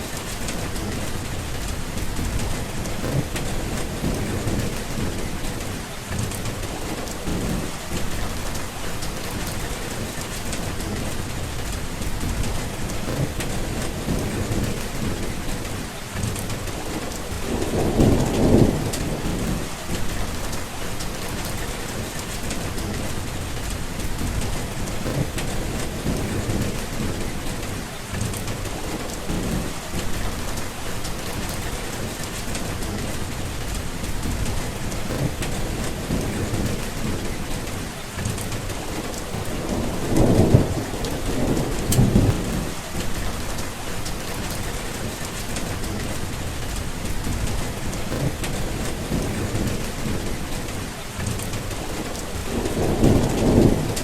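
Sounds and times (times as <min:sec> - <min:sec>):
rolling thunder: 0:00.0 - 0:54.0
steady rain falling: 0:00.0 - 0:54.0.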